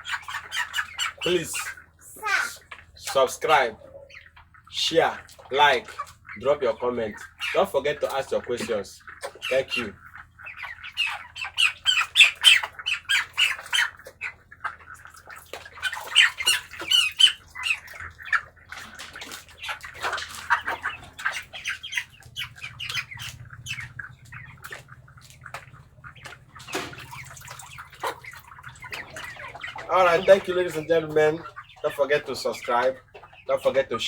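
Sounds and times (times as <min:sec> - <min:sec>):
chickens squawking and peeping: 0:00.0 - 0:34.0.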